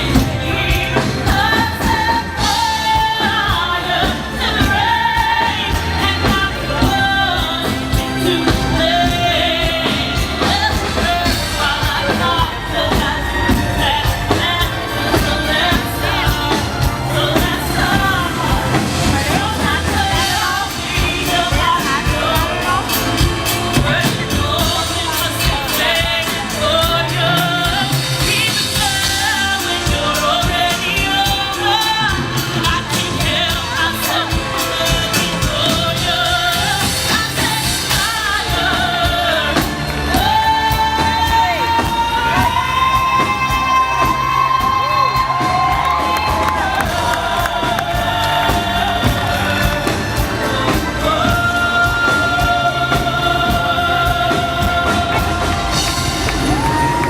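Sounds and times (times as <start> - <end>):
band accompaniment with steady beat: 0.0 - 57.0
woman singing a pop ballad: 0.0 - 57.0.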